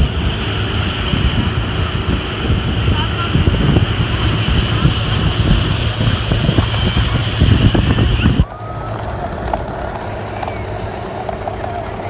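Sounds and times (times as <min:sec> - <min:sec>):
boat engine drone: 0:00.0 - 0:12.0
boat wake rushing: 0:00.0 - 0:12.0
wind buffeting microphone: 0:00.0 - 0:12.0.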